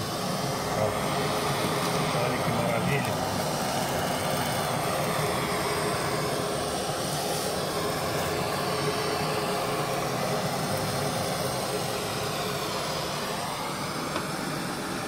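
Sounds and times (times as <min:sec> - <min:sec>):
blowtorch flame roaring: 0:00.0 - 0:15.0.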